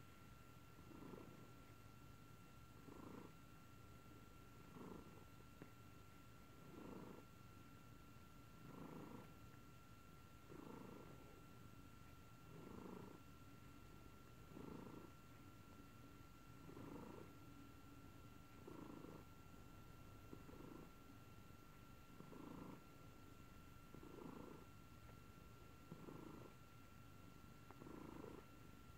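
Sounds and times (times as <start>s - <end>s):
cat purring: 0.0s - 28.9s.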